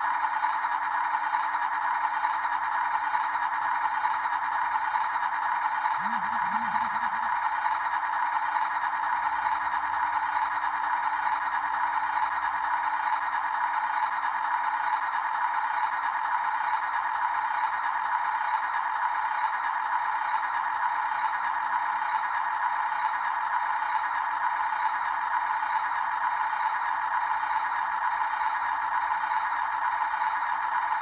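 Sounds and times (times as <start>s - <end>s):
toy truck motors whirring: 0.0s - 31.0s.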